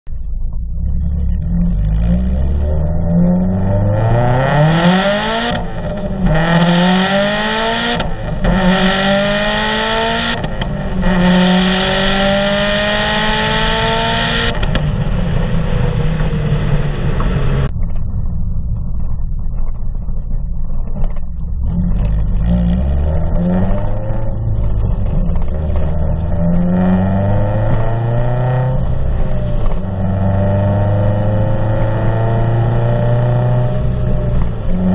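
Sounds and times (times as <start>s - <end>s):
car exhaust accelerating: 0.1s - 34.9s.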